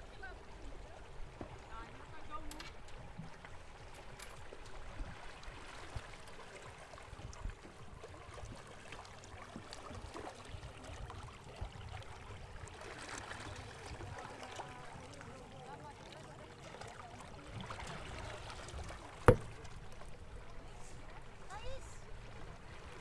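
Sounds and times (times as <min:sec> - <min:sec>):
water splashing along boat hull: 0:00.0 - 0:23.0.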